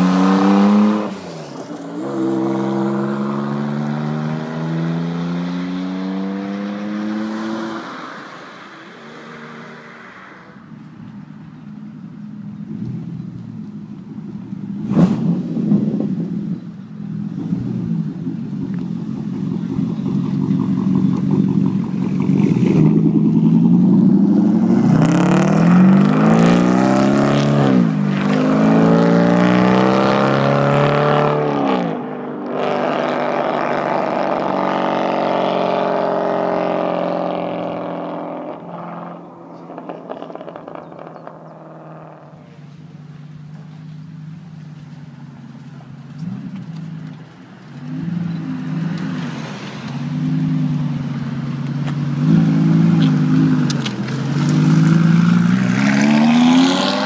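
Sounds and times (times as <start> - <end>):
sports car engine accelerating: 0.0 - 57.0.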